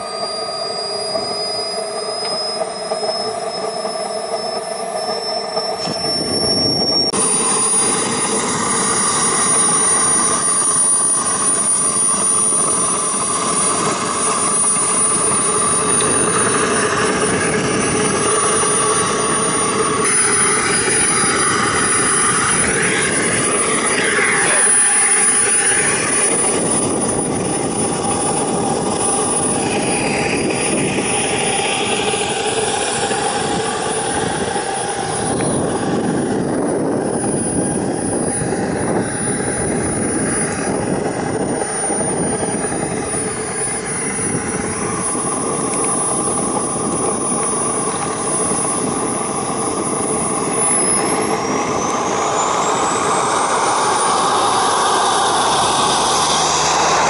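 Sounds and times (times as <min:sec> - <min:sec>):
jet exhaust rush: 0:00.0 - 0:57.0
model jet turbine whine: 0:00.0 - 0:57.0.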